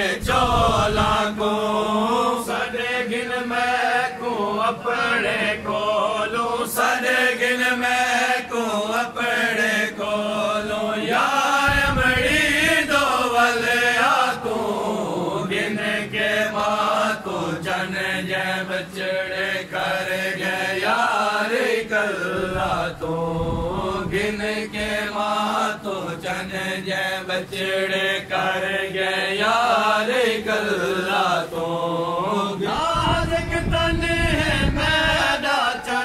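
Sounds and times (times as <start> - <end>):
men singing a lament: 0.0 - 36.0.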